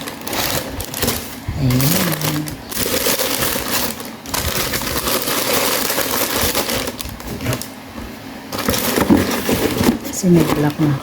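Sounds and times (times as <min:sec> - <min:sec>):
rustling and crinkling: 0:00.0 - 0:11.0.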